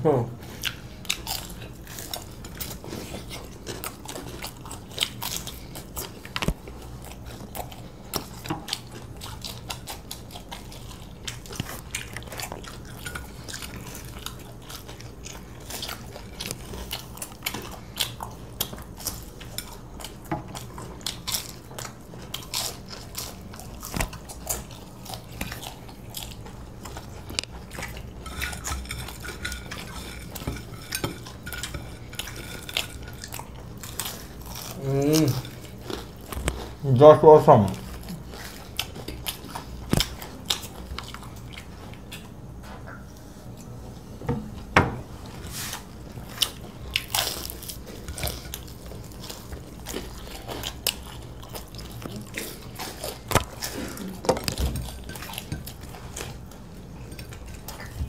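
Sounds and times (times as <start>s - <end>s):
people biting and chewing: 0.4s - 42.5s, 45.2s - 58.0s
fingers and food clicking on plates: 0.6s - 36.8s, 46.2s - 58.0s.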